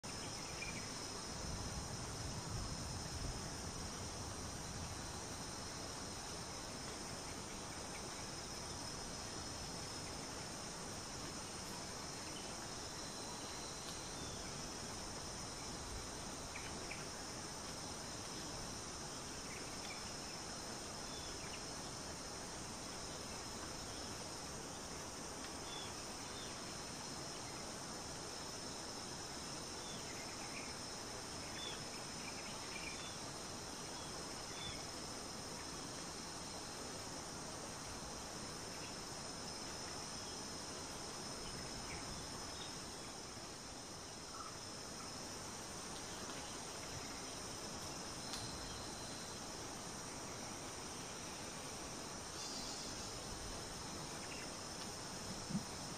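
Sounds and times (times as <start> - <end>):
insect chorus: 0.0 - 55.9.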